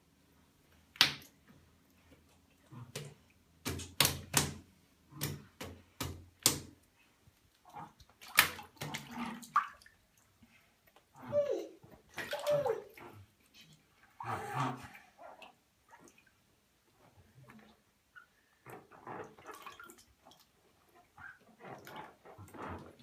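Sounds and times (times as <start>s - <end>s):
water splashes in a bathtub: 0.8s - 23.0s.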